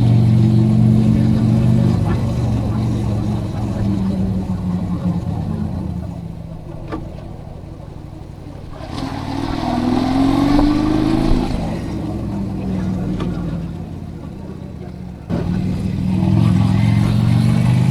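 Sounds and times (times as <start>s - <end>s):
motorcycle engine accelerating: 0.0s - 14.5s, 15.2s - 17.9s.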